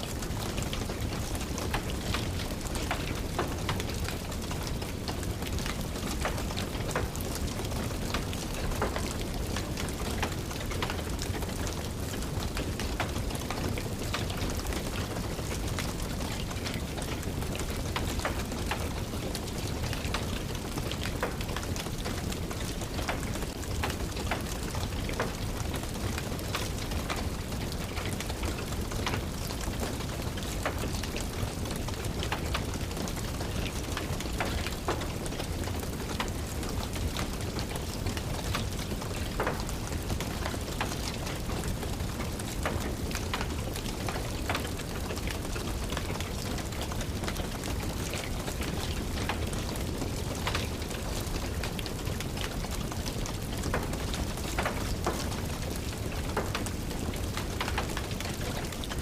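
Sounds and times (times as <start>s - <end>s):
rain pattering: 0.0s - 59.0s
wood fire crackling: 0.0s - 59.0s.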